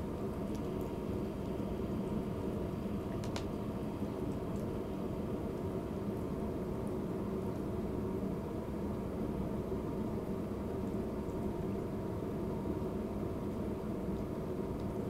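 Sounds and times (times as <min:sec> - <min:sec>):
room noise hum and hiss: 0:00.0 - 0:15.0.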